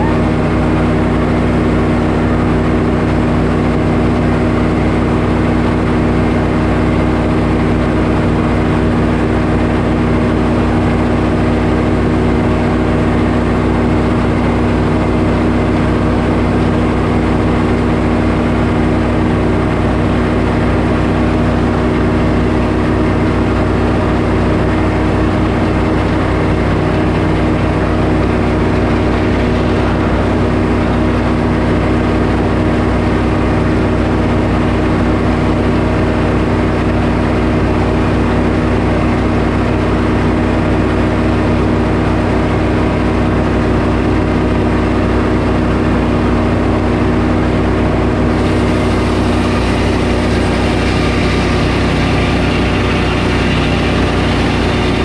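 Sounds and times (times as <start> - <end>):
sawmill engine droning: 0.0 - 55.0.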